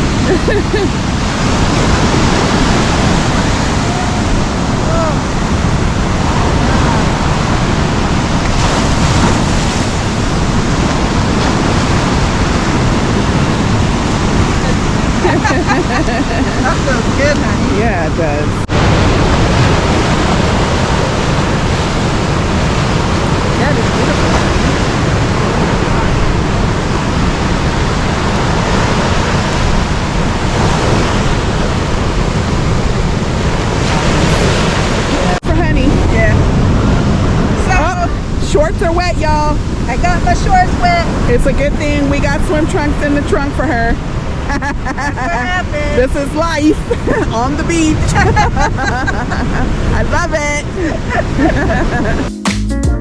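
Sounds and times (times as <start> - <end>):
wind buffeting microphone: 0.0 - 52.3
ocean surf washing in: 0.0 - 52.4.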